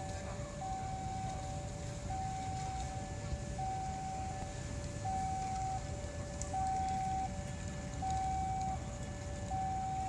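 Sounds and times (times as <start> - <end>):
two-tone electronic warning signal: 0.0 - 7.4, 8.0 - 8.8, 9.4 - 10.0.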